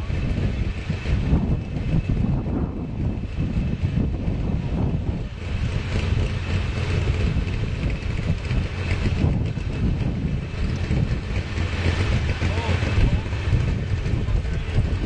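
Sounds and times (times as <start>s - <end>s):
truck engine running: 0.0s - 15.0s
wind on microphone: 0.0s - 15.0s.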